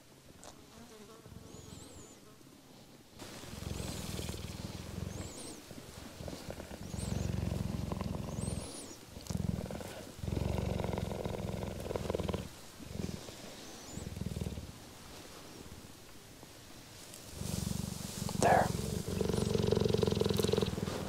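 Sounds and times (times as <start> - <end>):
cheetah purring: 1.3 - 2.2, 3.2 - 15.8, 17.1 - 21.0.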